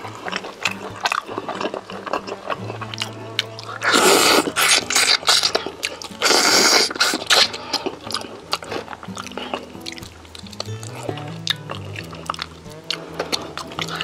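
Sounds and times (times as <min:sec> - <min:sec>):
crunching of crispy food being chewed: 0:00.0 - 0:14.0
soft background music: 0:00.0 - 0:14.0.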